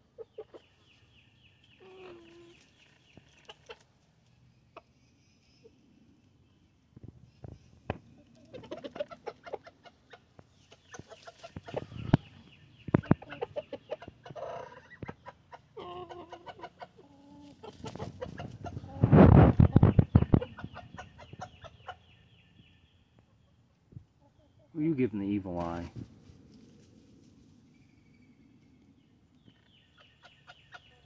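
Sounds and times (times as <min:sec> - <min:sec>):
chickens clucking: 0:00.0 - 0:22.4, 0:23.1 - 0:24.8, 0:29.4 - 0:31.0.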